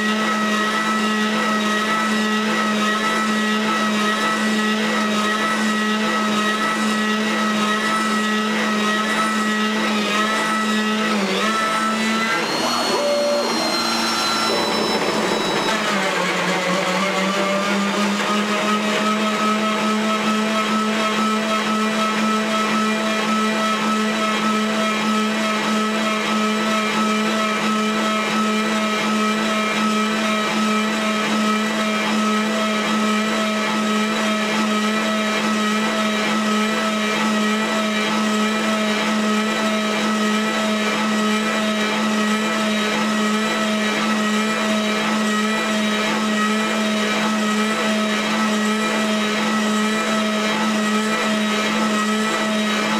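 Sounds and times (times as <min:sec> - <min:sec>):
metal cutting noise: 0:00.0 - 0:52.9
router spindle whining: 0:00.0 - 0:52.9.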